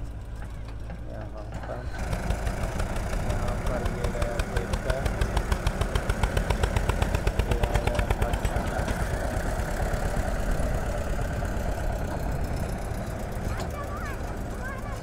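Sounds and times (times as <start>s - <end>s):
backhoe loader engine rumble: 0.0s - 15.0s
diesel tractor engine thudding: 0.0s - 15.0s.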